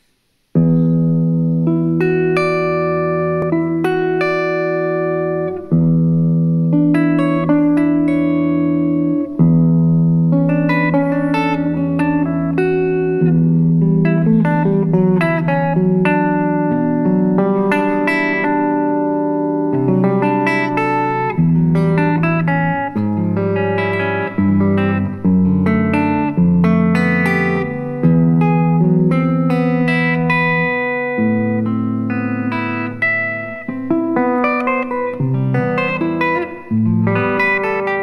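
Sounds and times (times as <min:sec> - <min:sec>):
fingerstyle electric guitar: 0:00.0 - 0:38.0.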